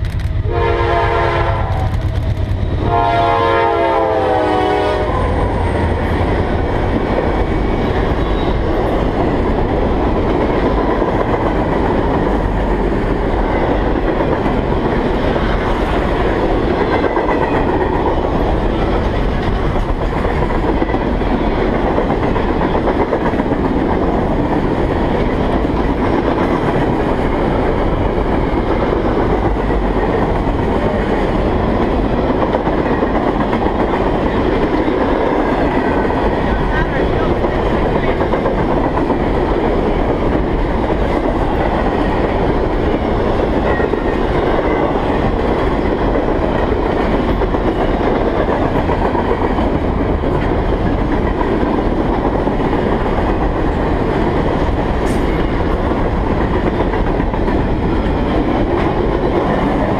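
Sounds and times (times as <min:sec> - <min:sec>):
diesel locomotive passing: 0:00.0 - 0:59.9
freight train rolling past: 0:00.0 - 0:59.9.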